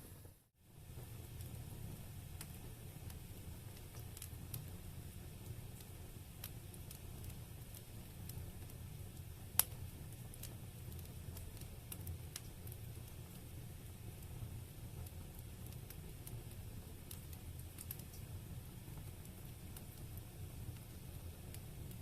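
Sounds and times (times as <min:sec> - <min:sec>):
fire crackles: 0:00.0 - 0:22.0
wood fire burning: 0:00.1 - 0:22.0.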